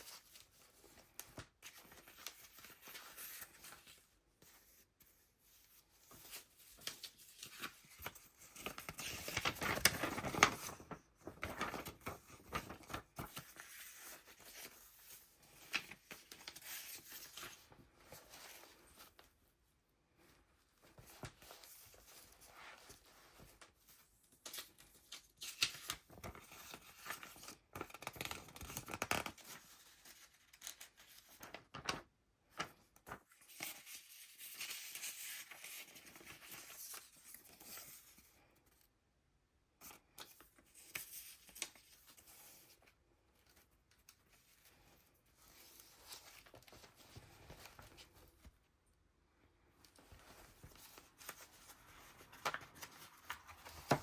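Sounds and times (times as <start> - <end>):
paper pages rustling: 0.0 - 19.4, 20.2 - 38.4, 43.4 - 48.7, 49.8 - 54.0.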